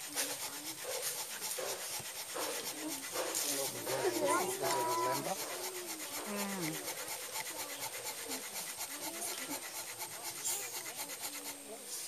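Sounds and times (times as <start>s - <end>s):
wood rasping on wood: 0.0s - 12.0s.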